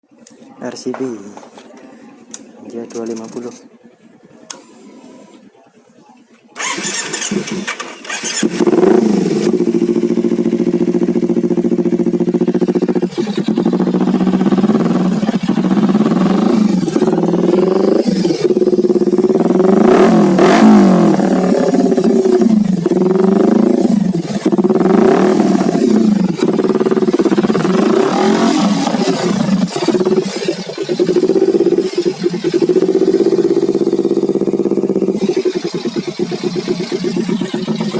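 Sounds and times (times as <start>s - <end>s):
motorcycle engine running: 6.6s - 37.9s.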